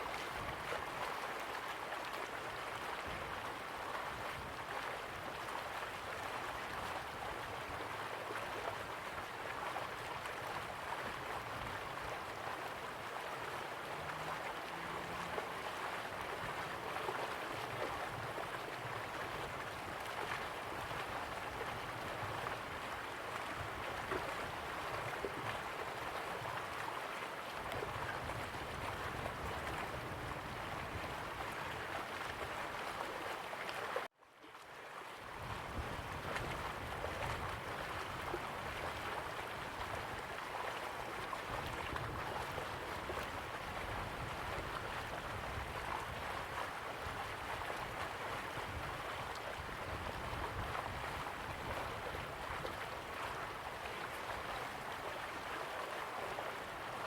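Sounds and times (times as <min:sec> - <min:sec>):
faint water gurgling: 0:00.0 - 0:57.0
river water flowing: 0:00.0 - 0:57.0.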